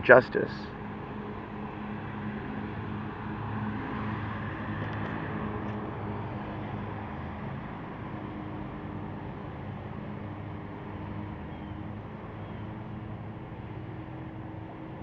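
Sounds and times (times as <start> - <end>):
car running low hum: 0.0 - 15.0.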